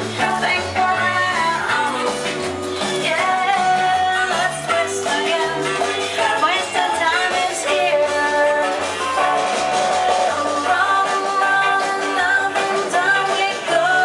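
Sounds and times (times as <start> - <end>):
rock and roll song with singing: 0.0 - 14.0.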